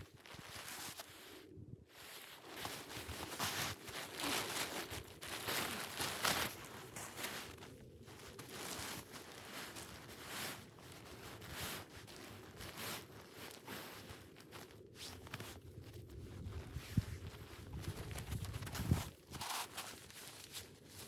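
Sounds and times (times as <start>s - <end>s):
footsteps crunching in snow: 0.2s - 21.0s.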